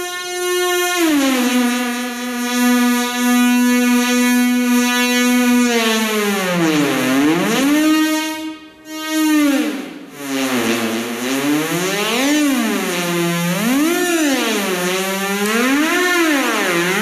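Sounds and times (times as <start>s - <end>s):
buzzy synthesizer tone: 0.0s - 17.0s.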